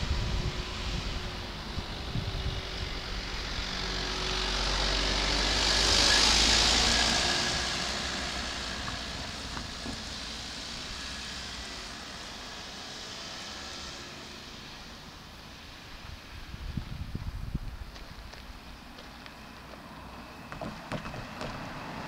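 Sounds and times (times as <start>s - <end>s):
van passing by: 0.0s - 22.0s.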